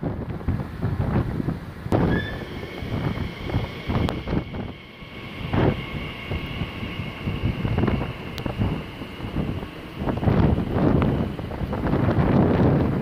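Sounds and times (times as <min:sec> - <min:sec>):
wind buffeting microphone: 0:00.0 - 0:13.0
electric train high whine: 0:01.5 - 0:13.0.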